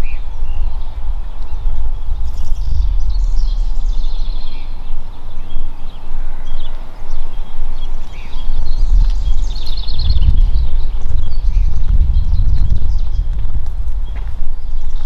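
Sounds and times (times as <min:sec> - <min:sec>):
small birds chirping and trilling: 0:00.0 - 0:15.0
wind buffeting microphone: 0:00.0 - 0:15.0.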